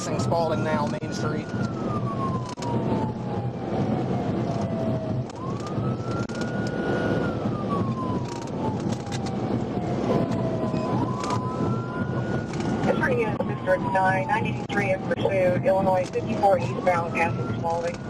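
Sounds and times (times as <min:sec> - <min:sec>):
car road and engine noise: 0:00.0 - 0:18.0
police siren wailing: 0:00.0 - 0:18.0.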